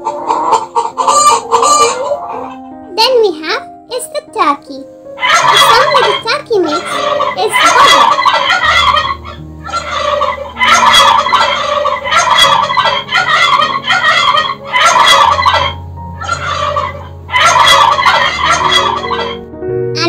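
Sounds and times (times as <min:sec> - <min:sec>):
turkey gobbling: 0:00.0 - 0:02.6, 0:05.2 - 0:19.5.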